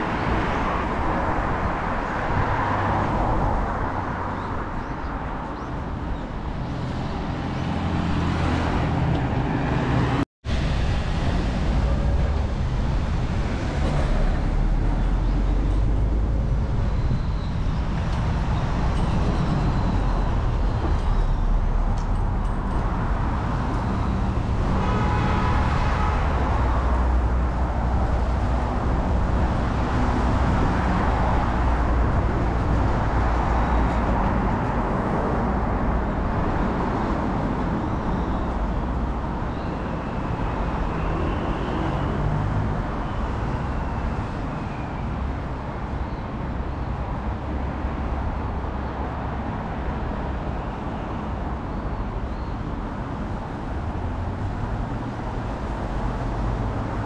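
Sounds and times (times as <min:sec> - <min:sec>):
cars and buses driving past: 0:00.0 - 0:57.0.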